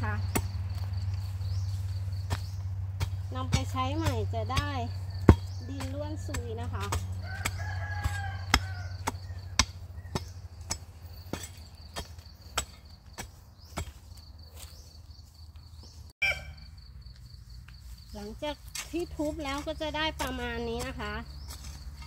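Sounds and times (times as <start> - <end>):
hoe chopping hard soil: 0.0 - 14.8, 18.7 - 22.0.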